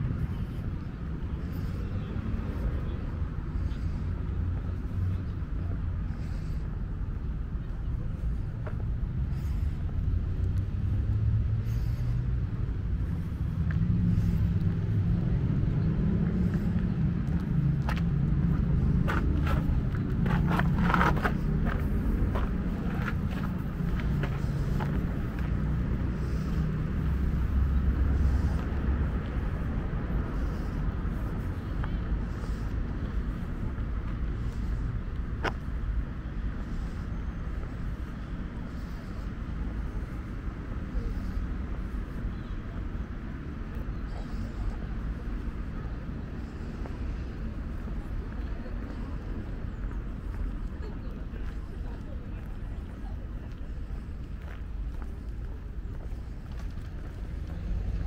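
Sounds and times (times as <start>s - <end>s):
low street rumble: 0.0s - 58.0s.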